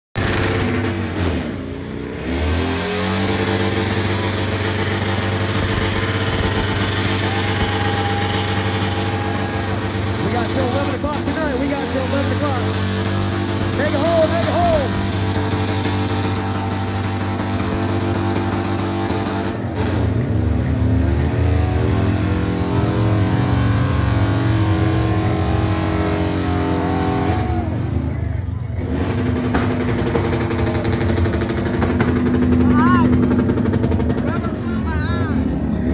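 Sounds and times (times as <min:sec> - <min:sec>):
motorcycle engine at high revs: 0:00.2 - 0:34.6.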